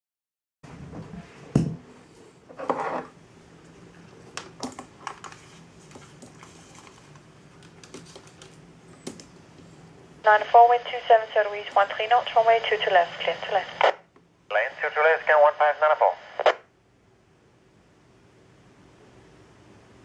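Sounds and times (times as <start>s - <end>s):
faint steady hum: 0.7s - 20.0s.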